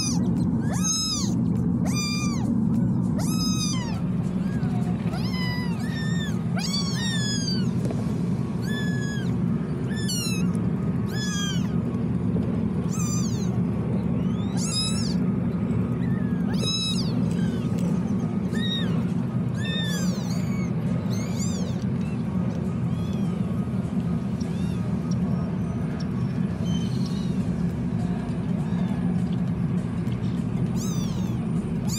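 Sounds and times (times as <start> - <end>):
kittens mewing: 0.0 - 31.9
steady low hum: 0.0 - 31.9.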